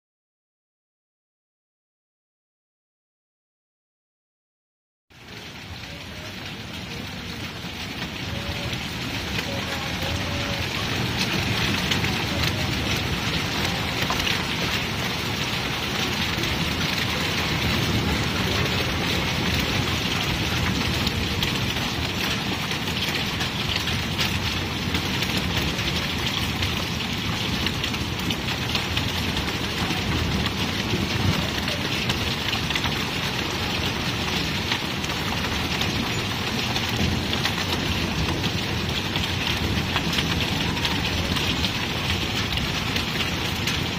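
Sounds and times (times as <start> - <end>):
heavy rain and hail falling: 5.1 - 43.9.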